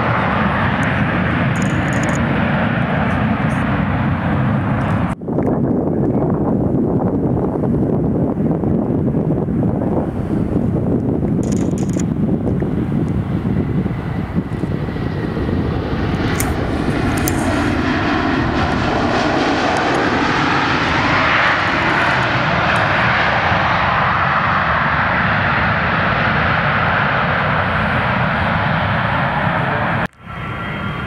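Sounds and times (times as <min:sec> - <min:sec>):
loud jet engine roar: 0:00.0 - 0:31.0.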